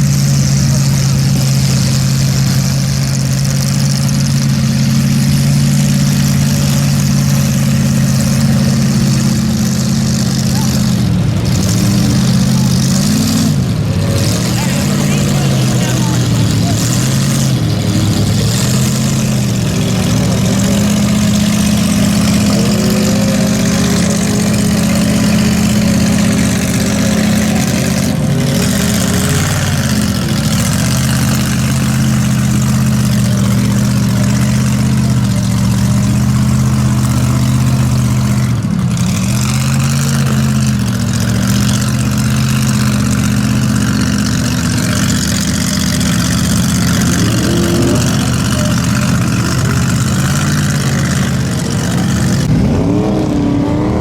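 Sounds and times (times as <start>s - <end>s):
truck engine running at high revs: 0.0s - 54.0s.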